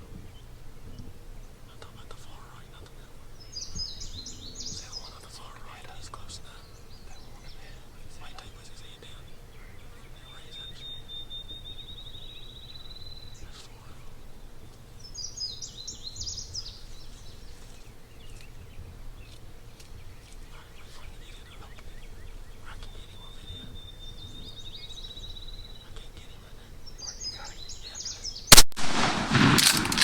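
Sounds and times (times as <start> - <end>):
songbird trilling: 0.0 - 28.6
bird warbling song: 0.0 - 30.0.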